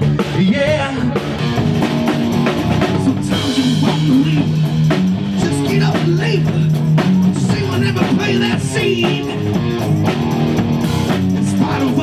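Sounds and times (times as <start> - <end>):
drum kit: 0.0 - 12.0
electric guitar: 0.0 - 12.0.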